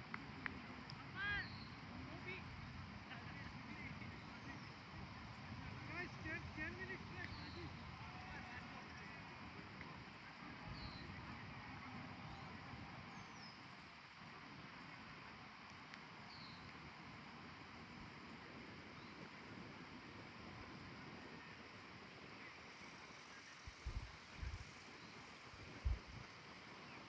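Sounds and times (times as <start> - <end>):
faint background hiss: 0.0 - 27.0
faint chirps: 0.0 - 27.0
pulsing insect drone: 0.0 - 27.0.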